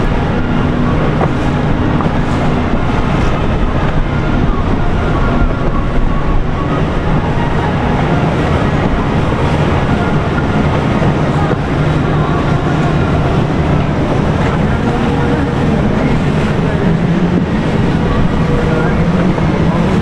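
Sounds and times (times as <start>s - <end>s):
boat engines rumbling: 0.0s - 20.0s
water rushing: 0.0s - 20.0s.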